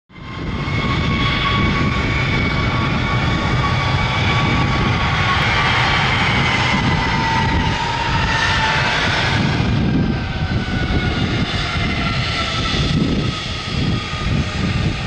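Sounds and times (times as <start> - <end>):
jet engines whining and rumbling: 0.1 - 15.0.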